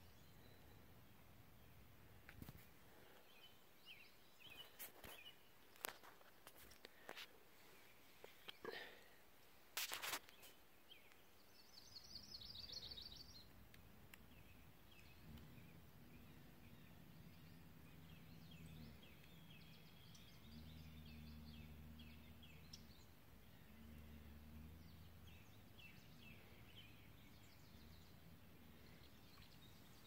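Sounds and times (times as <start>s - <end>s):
small birds singing: 0.0s - 9.2s, 9.8s - 30.0s.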